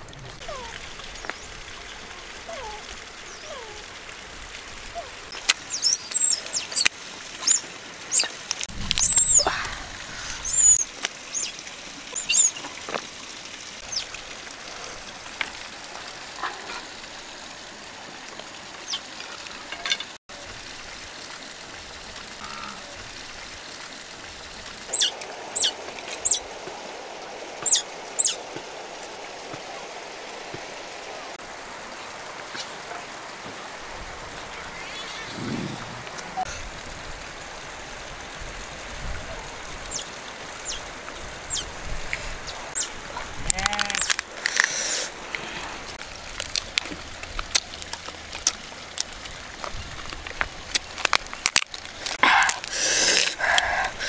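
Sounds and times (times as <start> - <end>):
outdoor background hiss: 0.9 - 54.0.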